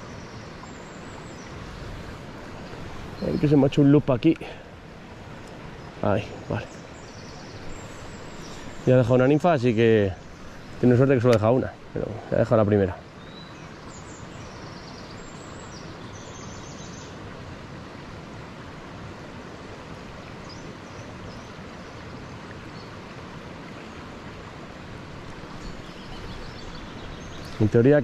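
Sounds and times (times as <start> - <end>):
river rushing: 0.0 - 28.0.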